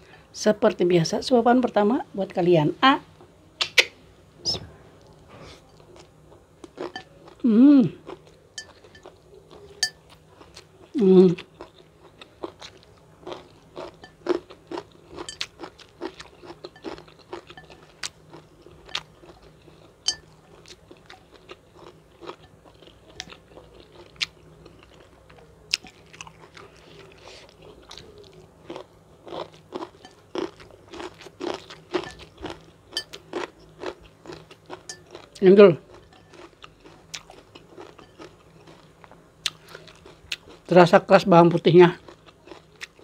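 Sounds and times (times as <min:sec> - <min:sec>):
person chewing crunchy food: 0:05.0 - 0:40.7, 0:42.0 - 0:43.0.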